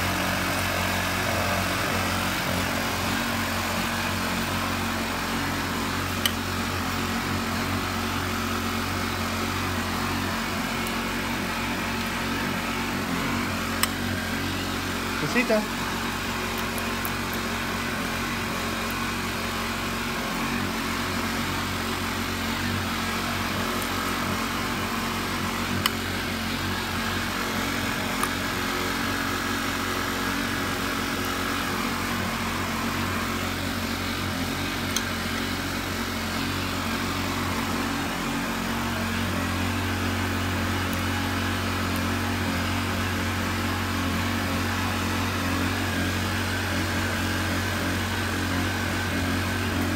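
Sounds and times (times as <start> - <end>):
machine humming: 0.0 - 49.9.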